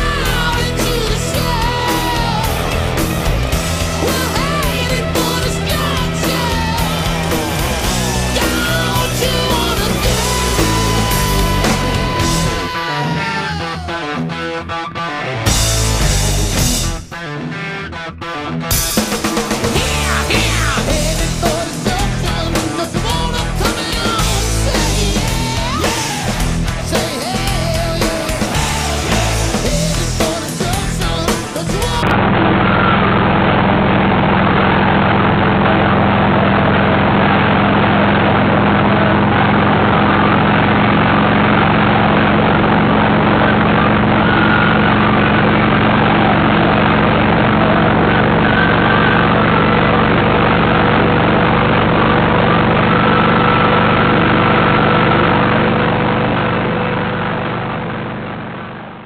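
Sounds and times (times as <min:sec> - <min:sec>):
motorcycle engine cruising: 0:00.0 - 0:13.4, 0:14.3 - 0:17.2, 0:18.7 - 0:59.0.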